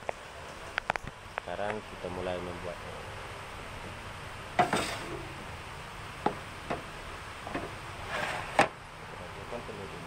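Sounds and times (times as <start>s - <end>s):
rustle: 0.0s - 10.0s.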